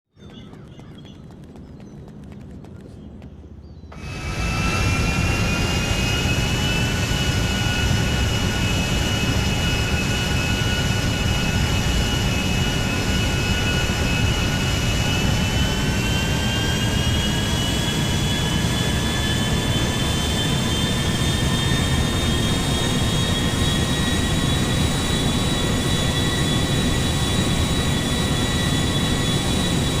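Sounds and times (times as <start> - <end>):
high rising whine: 3.9 - 30.0
jet engine roaring: 3.9 - 30.0.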